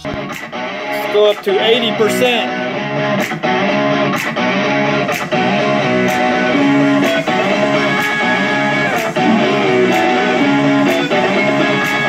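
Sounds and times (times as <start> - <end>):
guitar music through speaker: 0.0 - 12.0.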